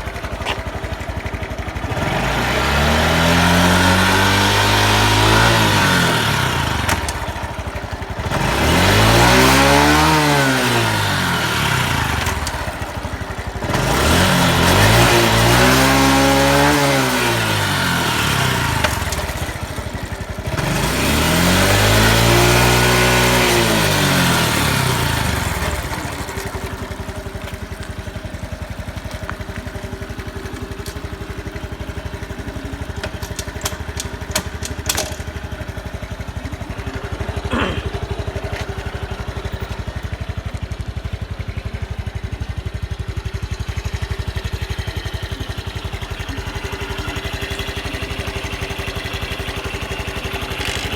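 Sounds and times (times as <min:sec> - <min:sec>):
motorcycle engine revving and idling: 0:00.0 - 0:50.9.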